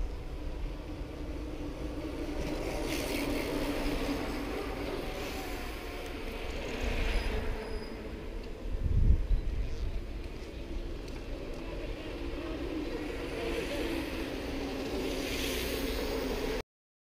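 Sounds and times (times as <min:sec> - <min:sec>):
bike riding noise: 0:00.0 - 0:16.6
wind rumble: 0:00.0 - 0:16.6.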